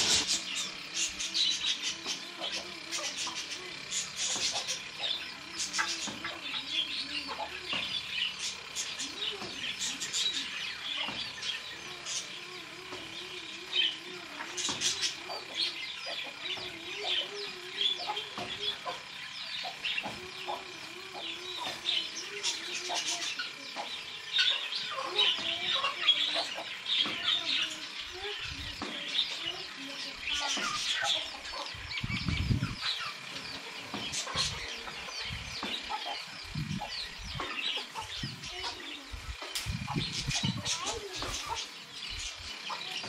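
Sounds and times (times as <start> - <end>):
birds chirping and chattering: 0.0 - 43.0.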